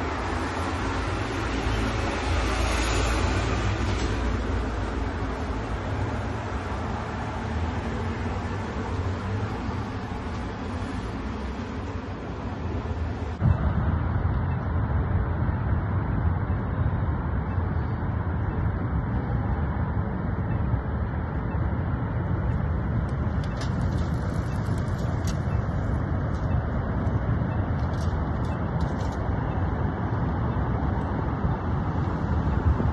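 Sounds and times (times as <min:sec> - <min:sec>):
passing road traffic: 0:00.0 - 0:32.9
wind rumbling on microphone: 0:00.0 - 0:32.9.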